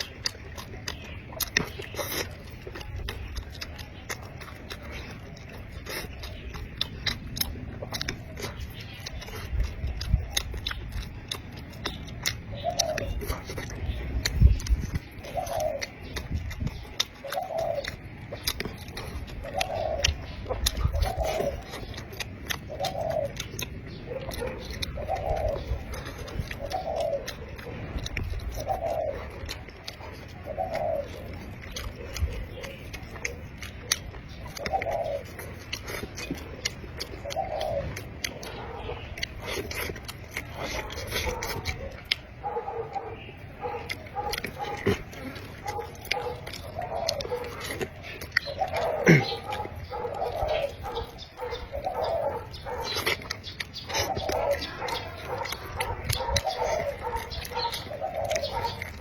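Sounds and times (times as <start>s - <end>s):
wet chewing mouth clicks: 0.0s - 59.0s
dove cooing: 2.2s - 59.0s.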